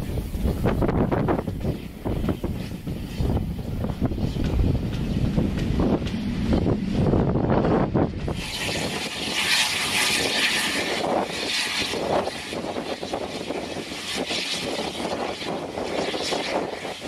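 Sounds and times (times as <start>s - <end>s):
train rushing and rumbling past: 0.0s - 17.0s.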